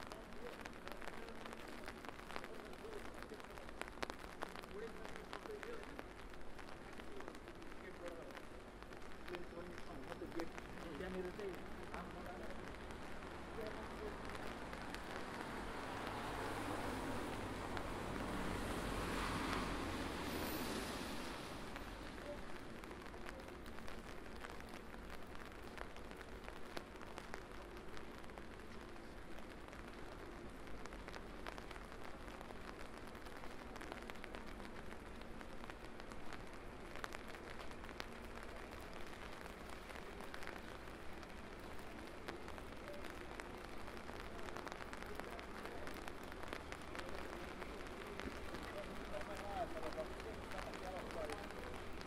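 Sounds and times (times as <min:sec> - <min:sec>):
steady rain with drop ticks: 0:00.0 - 0:52.0.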